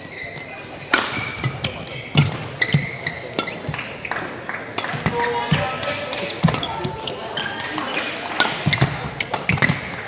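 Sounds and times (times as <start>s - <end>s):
shoes squeaking on court floor: 0.0s - 10.0s
racket hitting shuttlecock: 0.8s - 10.0s.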